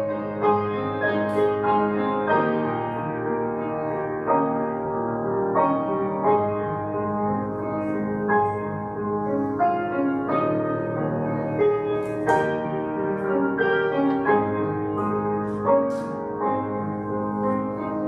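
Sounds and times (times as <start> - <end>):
slow gentle piano piece: 0.0 - 18.0.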